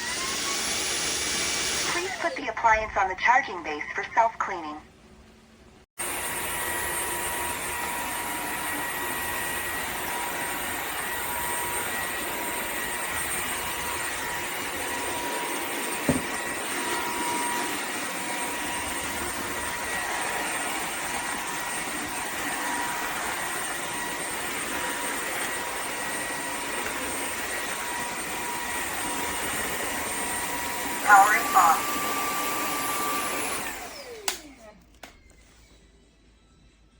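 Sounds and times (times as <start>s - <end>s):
vacuum mop motor running: 0.0s - 2.4s, 6.0s - 35.0s.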